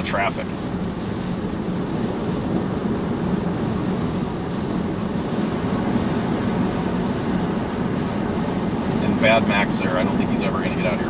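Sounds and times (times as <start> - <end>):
wind noise: 0.0 - 11.0.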